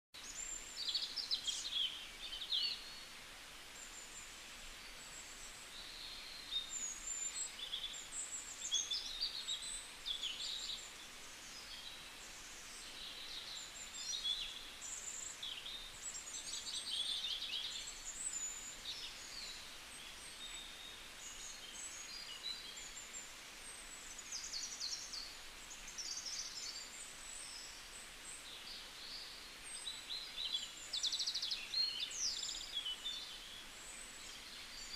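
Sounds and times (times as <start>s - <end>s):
faint steady hiss: 0.2s - 34.9s.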